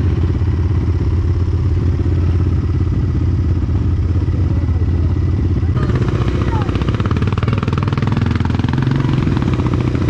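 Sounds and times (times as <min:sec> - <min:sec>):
quad engine idling: 0:00.0 - 0:10.0.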